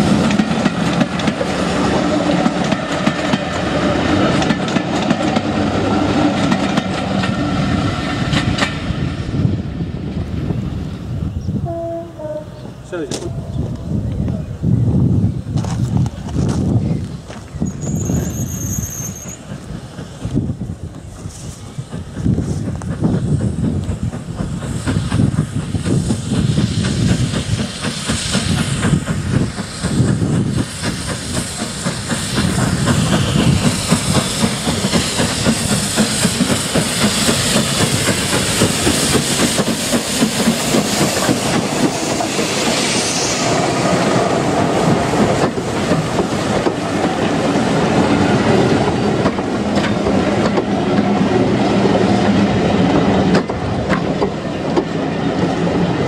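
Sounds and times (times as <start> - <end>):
train wheels clickety-clack: 0.0 - 10.6, 12.9 - 14.4, 15.5 - 56.0
steam locomotive approaching: 0.0 - 56.0.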